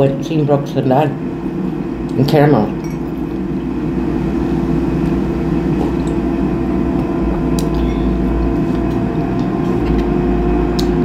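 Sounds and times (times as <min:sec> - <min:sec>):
appliance motor humming: 0:01.1 - 0:11.0.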